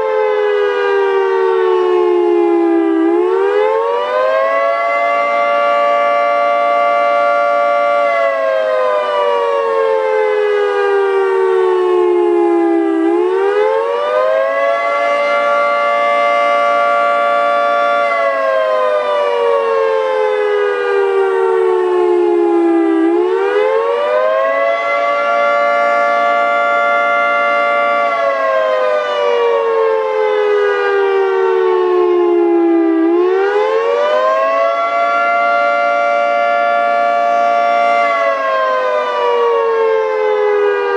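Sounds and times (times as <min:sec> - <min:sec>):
three-tone siren wailing: 0:00.0 - 0:40.9.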